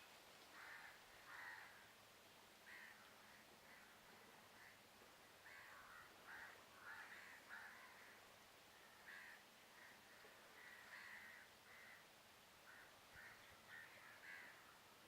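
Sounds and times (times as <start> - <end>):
short rough bird calls: 0.5 - 1.9, 2.6 - 4.8, 5.4 - 14.7.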